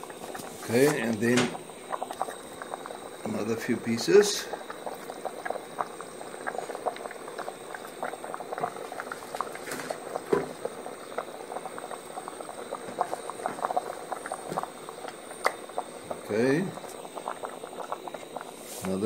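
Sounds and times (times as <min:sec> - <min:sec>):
stew bubbling in a pot: 0:00.0 - 0:19.0.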